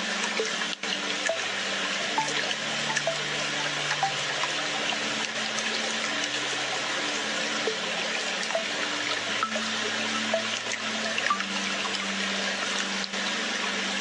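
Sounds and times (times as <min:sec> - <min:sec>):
small waterfall splashing: 0:00.0 - 0:14.0.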